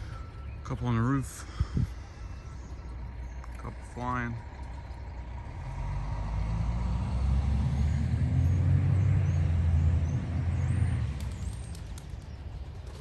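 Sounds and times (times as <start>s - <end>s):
passing vehicle engine rumble: 0.0s - 13.0s.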